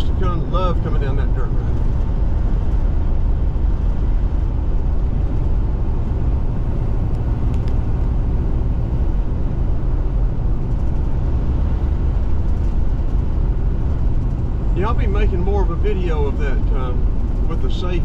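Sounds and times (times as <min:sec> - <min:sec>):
car driving on dirt road: 0:00.0 - 0:18.0.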